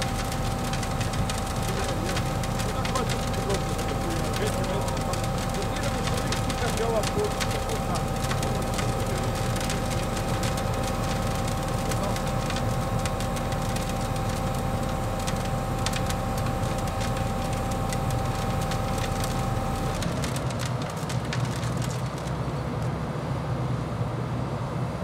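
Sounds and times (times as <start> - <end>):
fast irregular clicking and rattling: 0.0 - 22.4
low engine drone: 0.0 - 24.7
constant machine whine: 0.0 - 25.0.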